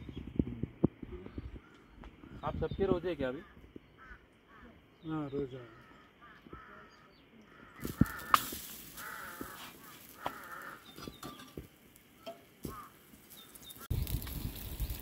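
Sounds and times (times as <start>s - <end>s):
harsh bird calls: 1.2s - 11.6s, 12.2s - 13.9s.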